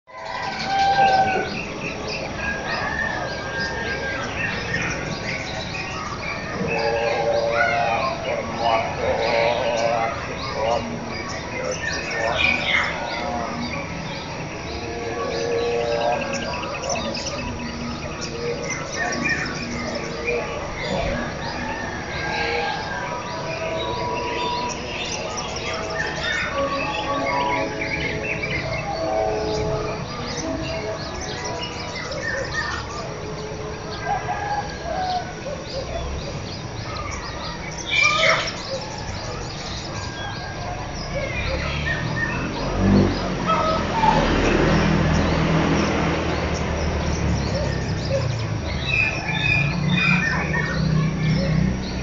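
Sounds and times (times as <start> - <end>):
lower bird calls: 0.1 - 52.0.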